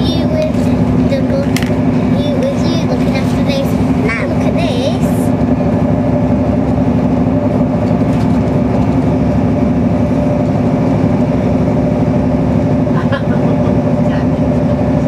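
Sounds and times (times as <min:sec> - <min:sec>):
train carriage running drone: 0:00.0 - 0:15.0.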